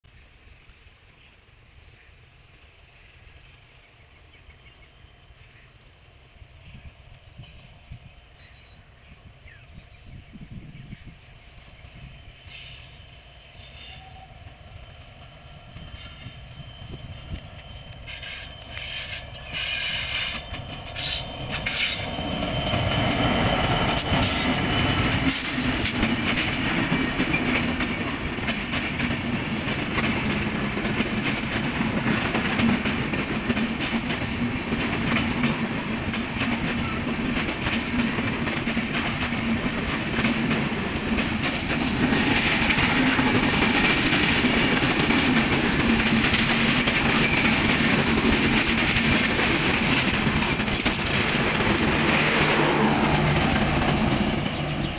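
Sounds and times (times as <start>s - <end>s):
diesel locomotive passing: 0.2s - 54.9s
train wheels on rails: 0.2s - 54.9s.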